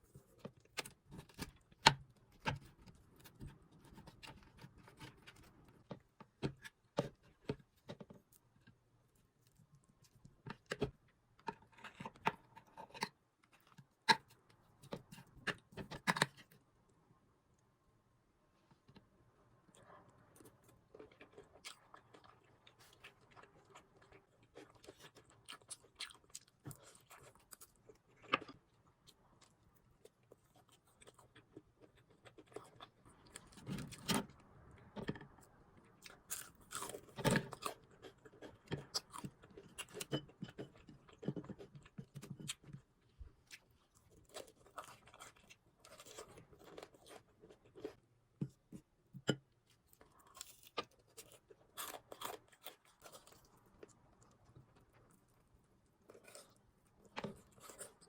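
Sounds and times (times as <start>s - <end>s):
crunchy chewing of fried food: 0.0s - 16.7s, 18.7s - 58.0s.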